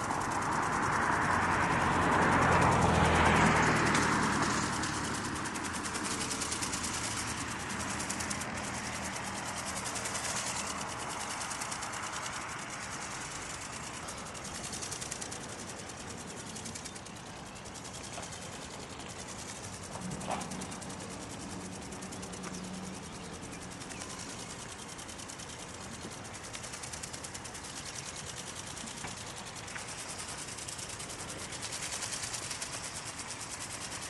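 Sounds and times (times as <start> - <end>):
low steady hum: 0.0 - 34.0
ornithopter motor buzzing: 0.0 - 34.0.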